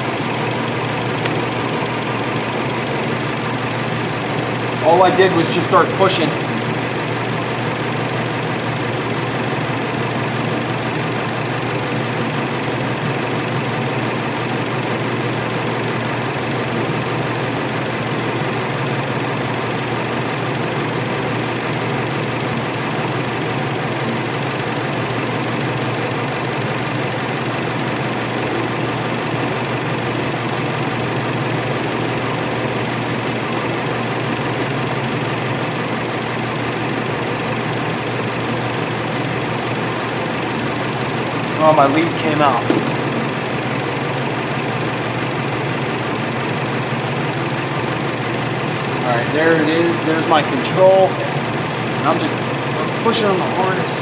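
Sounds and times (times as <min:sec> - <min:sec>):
motor droning: 0:00.0 - 0:54.0.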